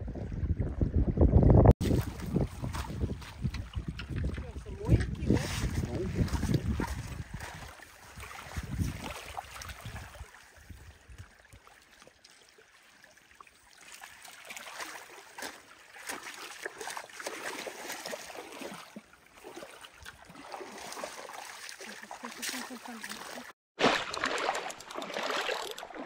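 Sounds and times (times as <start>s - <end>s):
water lapping and trickling: 0.0s - 26.0s.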